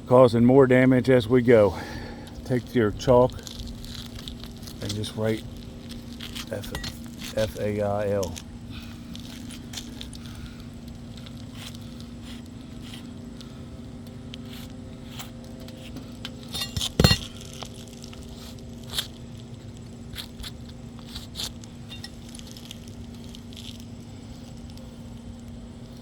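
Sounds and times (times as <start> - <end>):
low hum: 0.0 - 26.0
clicks and scrapes on shingles: 2.2 - 26.0.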